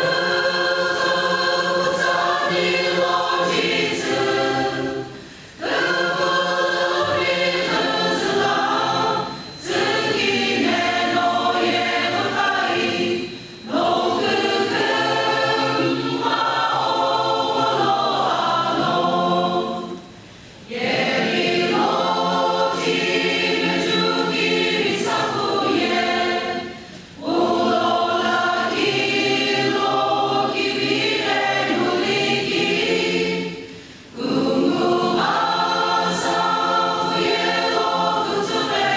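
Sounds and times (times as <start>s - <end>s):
church choir singing: 0.0s - 38.9s.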